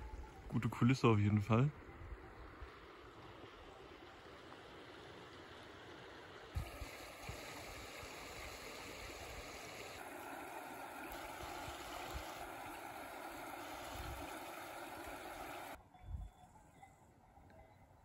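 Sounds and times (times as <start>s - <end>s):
stream running over stones: 0.6s - 15.8s.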